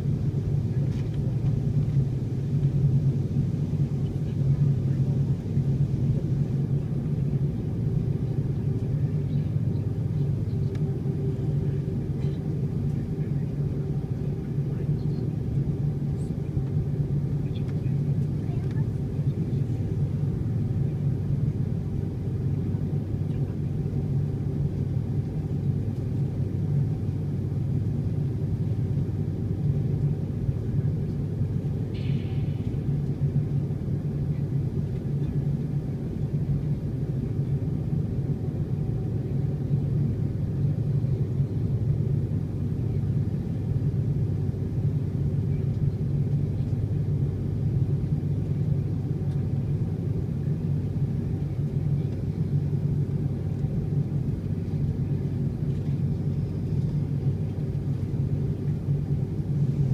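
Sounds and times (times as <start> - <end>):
jet engines idling rumble: 0.0 - 59.9.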